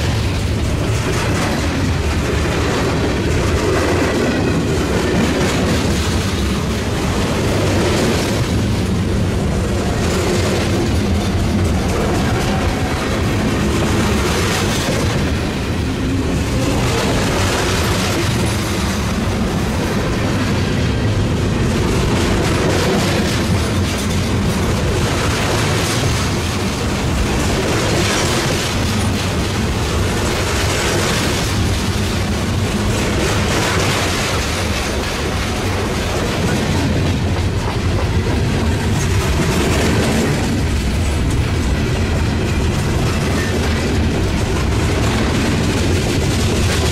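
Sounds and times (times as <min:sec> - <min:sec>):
rhythmic clickety-clack: 0:00.0 - 0:46.9
train wheels rumbling on rail: 0:00.0 - 0:46.9.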